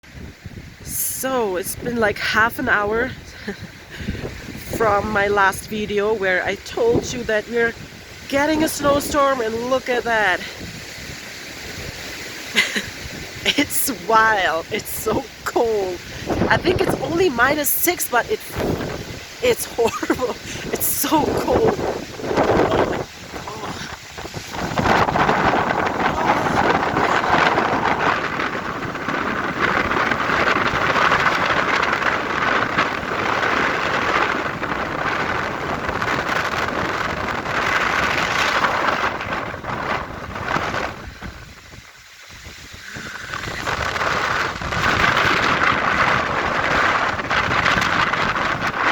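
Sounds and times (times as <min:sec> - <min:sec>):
strong snowstorm wind: 0:00.0 - 0:48.9.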